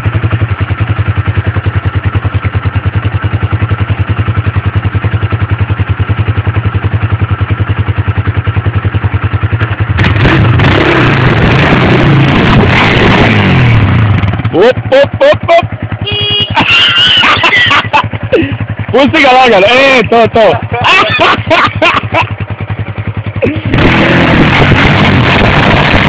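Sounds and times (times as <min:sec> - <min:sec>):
quad bike engine idling and revving: 0:00.0 - 0:26.0.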